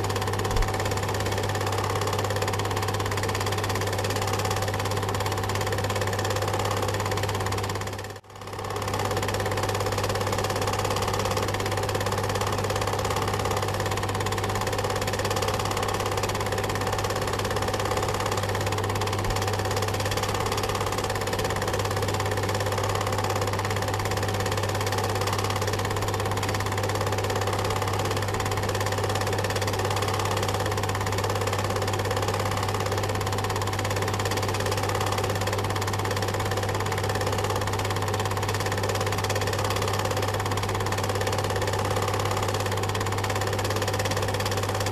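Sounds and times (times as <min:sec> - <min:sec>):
film projector running: 0:00.0 - 0:44.9.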